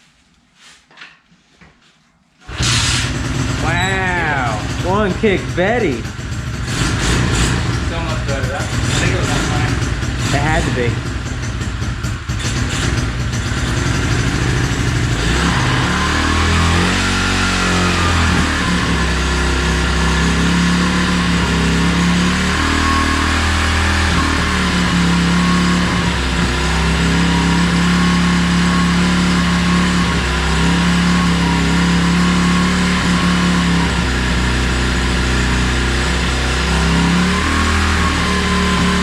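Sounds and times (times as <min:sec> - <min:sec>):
small motorcycle engine running: 0:02.5 - 0:39.0.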